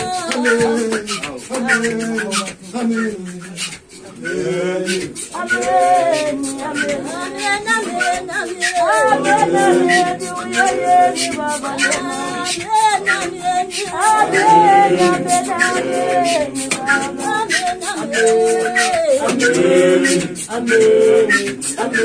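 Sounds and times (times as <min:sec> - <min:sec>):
group singing a cappella: 0:00.0 - 0:22.0.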